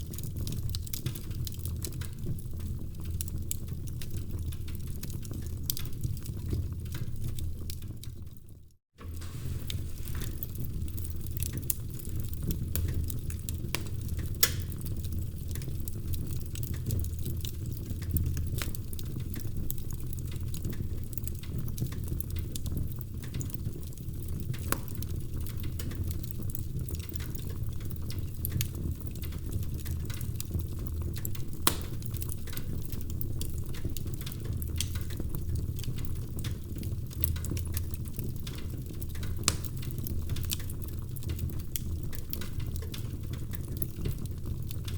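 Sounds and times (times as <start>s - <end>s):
fire low rumble: 0.0s - 44.9s
wood fire crackling and popping: 0.0s - 44.9s.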